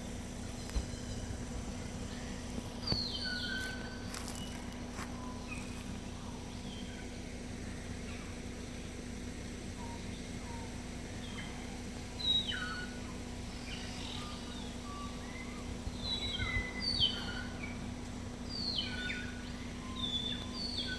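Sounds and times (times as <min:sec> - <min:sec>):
birds chirping: 0:00.0 - 0:20.9
low hum and rumble: 0:00.0 - 0:20.9.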